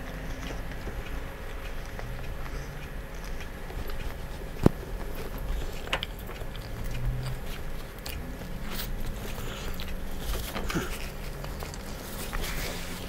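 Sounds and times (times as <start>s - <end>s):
man chewing: 0.0s - 13.0s
wet mouth clicks: 0.0s - 13.0s.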